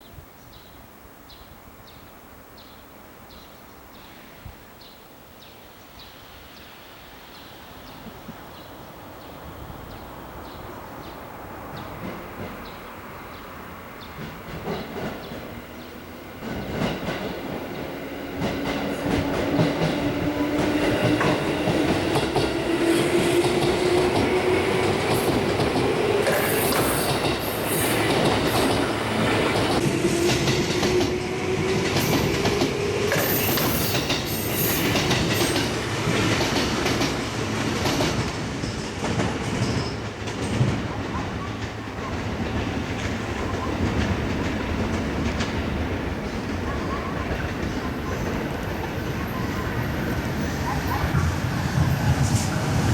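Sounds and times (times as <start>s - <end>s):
train rumbling running noise: 6.3s - 52.9s.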